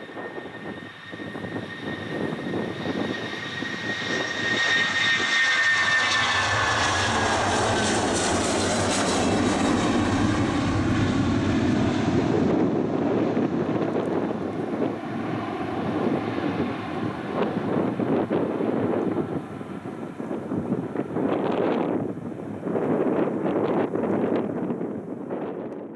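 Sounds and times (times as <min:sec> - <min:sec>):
high jet whine: 0:00.0 - 0:25.8
jet engines roaring at takeoff: 0:00.0 - 0:25.9.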